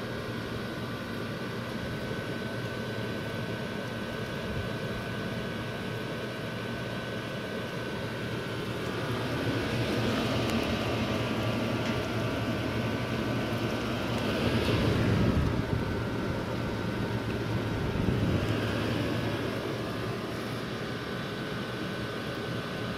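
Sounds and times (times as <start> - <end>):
air conditioner air rush and hum: 0.0 - 22.9
faint constant whine: 0.0 - 22.9.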